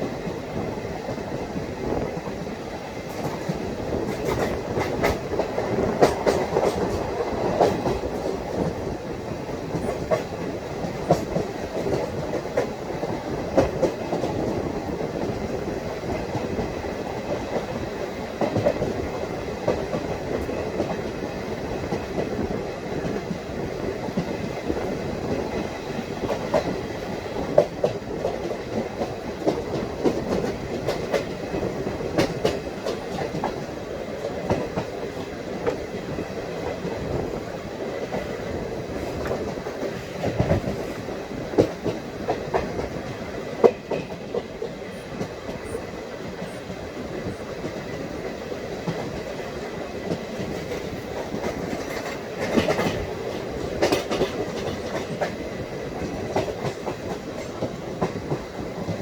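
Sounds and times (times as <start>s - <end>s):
train wheels rumbling on rail: 0.0s - 59.0s
wheels clicking over rail joints: 0.1s - 59.0s.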